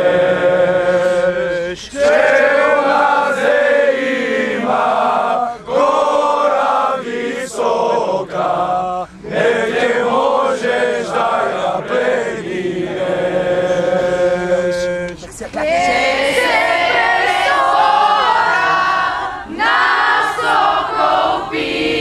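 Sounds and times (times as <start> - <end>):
group of young men singing: 0.0 - 22.0.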